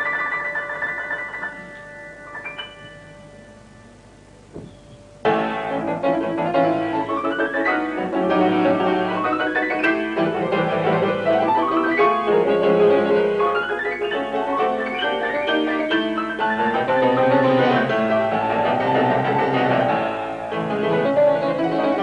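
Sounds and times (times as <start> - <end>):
grand piano fast runs: 0.0 - 3.6, 5.2 - 22.0.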